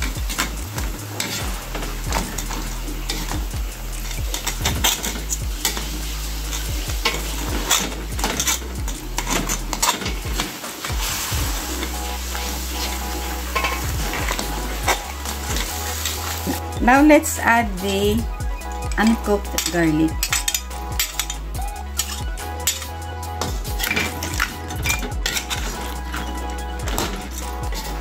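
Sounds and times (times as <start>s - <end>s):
sauce sizzling: 0.0s - 28.0s
metal spatula scraping a wok: 0.2s - 28.0s.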